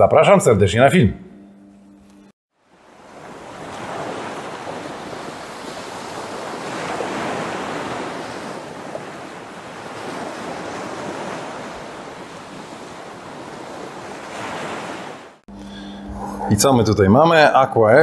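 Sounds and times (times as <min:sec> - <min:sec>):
ocean waves rushing: 0:02.7 - 0:17.6.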